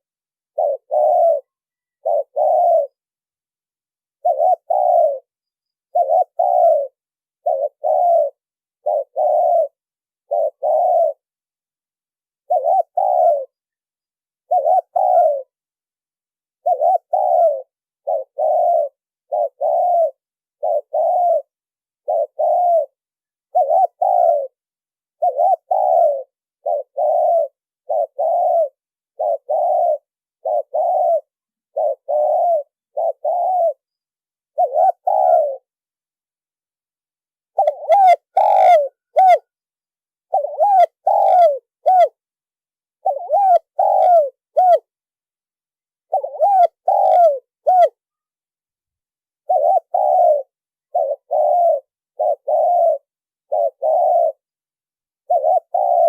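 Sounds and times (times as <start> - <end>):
dove cooing: 0.0 - 3.2, 4.1 - 11.4, 12.3 - 15.8, 16.5 - 35.8, 37.5 - 45.1, 45.9 - 48.4, 49.4 - 56.0.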